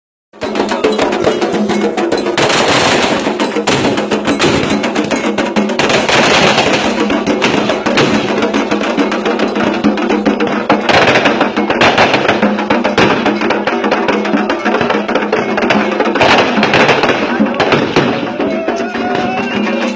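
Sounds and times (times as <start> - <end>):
fast ritual percussion: 0.4 - 19.9.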